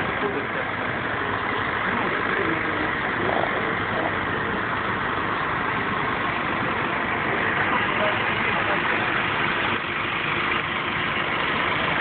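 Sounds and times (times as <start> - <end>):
street traffic noise: 0.0 - 12.0
vehicle engines running nearby: 0.0 - 12.0.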